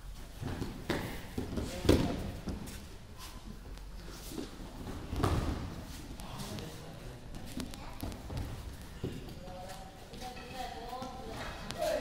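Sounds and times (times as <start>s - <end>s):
scuffling of bodies on mats: 0.0s - 12.0s.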